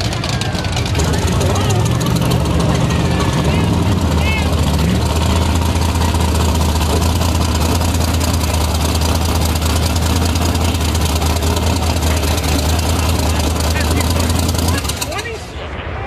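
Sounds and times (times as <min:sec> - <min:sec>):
car engine idling loud: 0:00.0 - 0:15.5.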